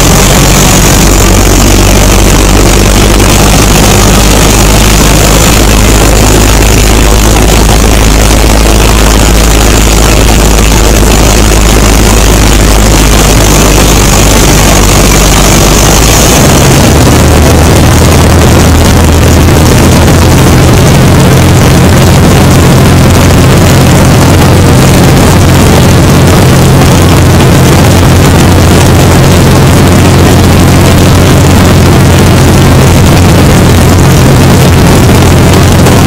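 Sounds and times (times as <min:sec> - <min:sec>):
propeller plane engine droning: 0:00.0 - 0:36.0
rush of airflow: 0:00.0 - 0:36.0.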